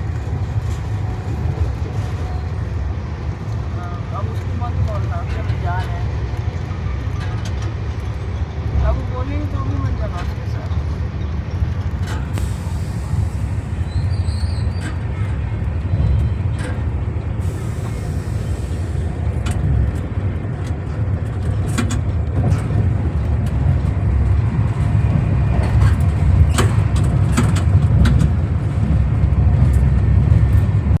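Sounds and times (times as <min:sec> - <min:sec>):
train clicks and clanks: 0:00.0 - 0:31.0
train rumbling along track: 0:00.0 - 0:31.0.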